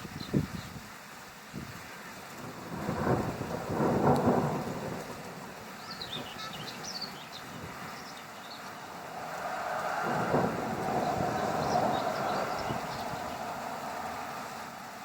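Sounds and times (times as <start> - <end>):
steady rain: 0.0 - 15.0
thunder rumbling: 2.4 - 15.0.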